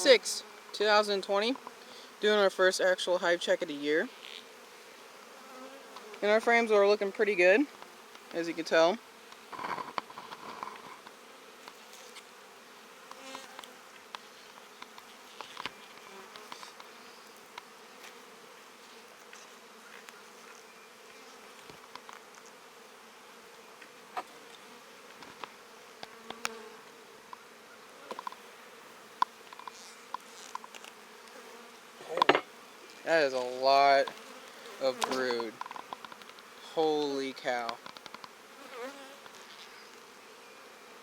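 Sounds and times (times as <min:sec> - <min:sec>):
honeybees buzzing: 0:00.0 - 0:41.0.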